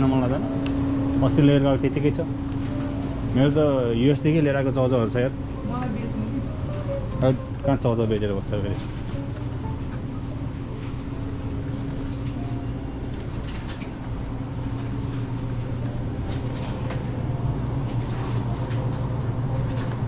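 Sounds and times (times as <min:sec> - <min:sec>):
supermarket background hum: 0:00.0 - 0:20.0.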